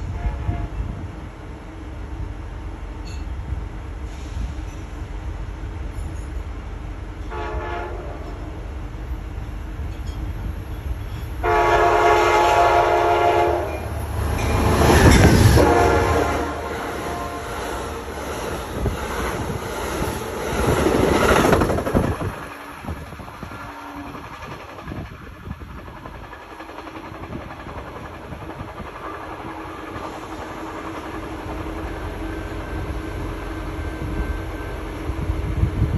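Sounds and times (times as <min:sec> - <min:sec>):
train cars rolling past: 0:00.0 - 0:35.9.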